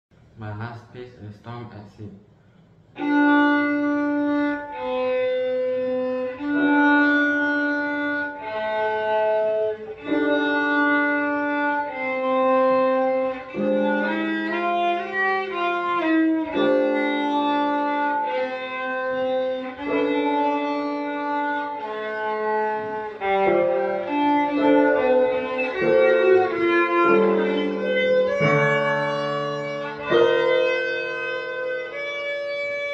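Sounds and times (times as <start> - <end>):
bowed violin melody: 2.9 - 32.9.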